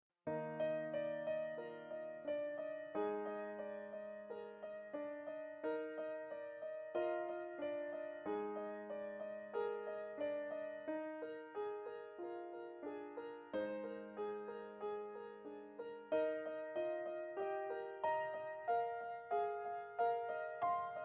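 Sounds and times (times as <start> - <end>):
gentle solo piano: 0.2 - 21.0.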